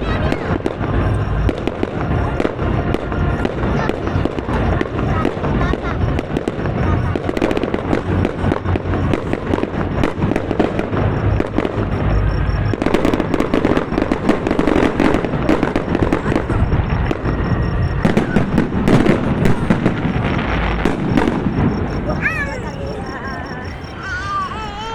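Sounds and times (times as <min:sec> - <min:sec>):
firecracker barrage: 0:00.0 - 0:24.0.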